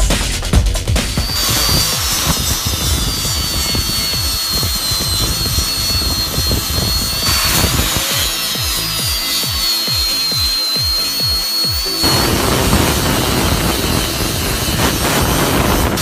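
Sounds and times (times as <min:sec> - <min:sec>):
electronic music with bass beat: 0:00.0 - 0:16.0
disc sander whining: 0:00.9 - 0:16.0.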